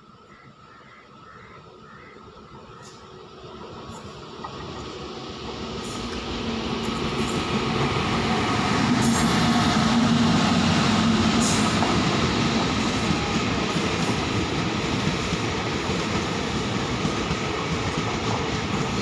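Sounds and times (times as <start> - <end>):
train coaches rumbling past: 0.5 - 19.0.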